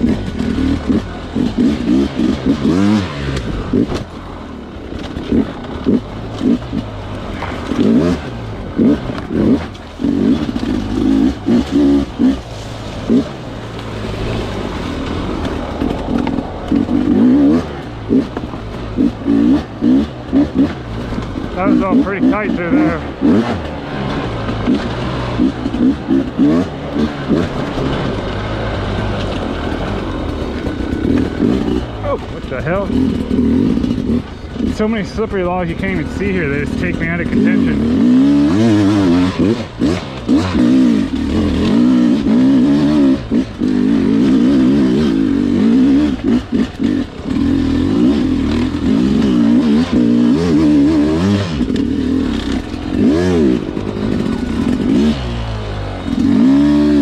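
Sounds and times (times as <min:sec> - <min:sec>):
dirt bike engine throttle blips: 0:00.0 - 0:57.0.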